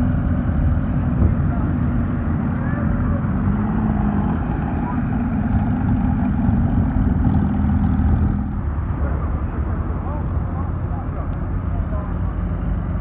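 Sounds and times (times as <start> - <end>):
car engine low hum: 0.0 - 13.0.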